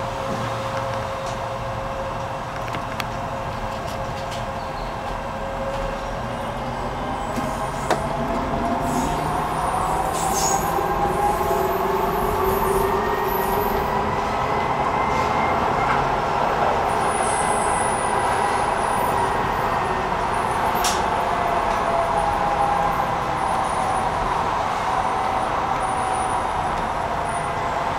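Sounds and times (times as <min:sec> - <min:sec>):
train wheels rumbling on track: 0:00.0 - 0:27.9.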